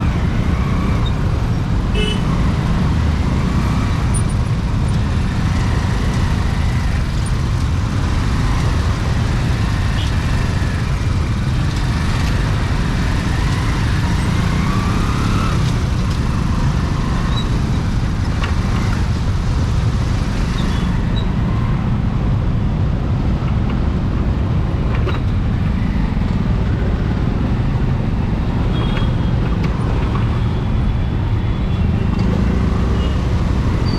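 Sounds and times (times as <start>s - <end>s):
scooter and road traffic rumble: 0.0s - 33.9s.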